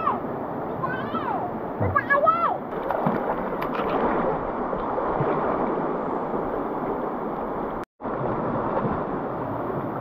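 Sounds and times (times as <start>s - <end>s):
river water rushing and splashing: 0.0s - 10.0s.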